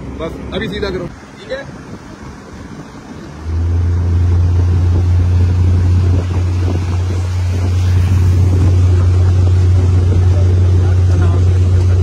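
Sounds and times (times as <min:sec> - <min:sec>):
motorboat engine drone: 0:00.0 - 0:12.0
water rushing along hull: 0:00.0 - 0:12.0.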